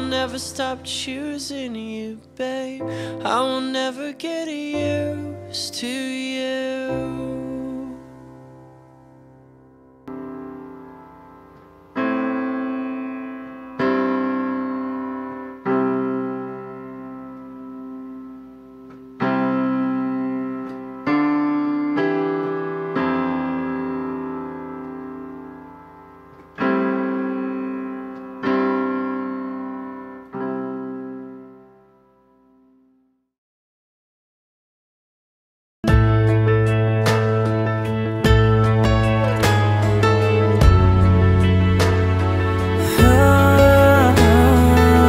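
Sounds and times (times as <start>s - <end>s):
piano chords: 0.0s - 32.9s, 35.8s - 45.0s.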